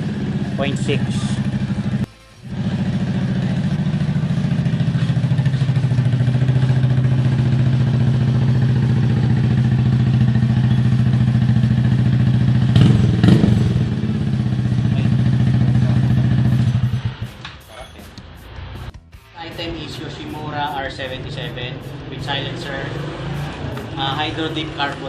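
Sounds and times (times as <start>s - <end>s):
scooter engine running loud: 0.0s - 17.3s, 20.0s - 25.0s.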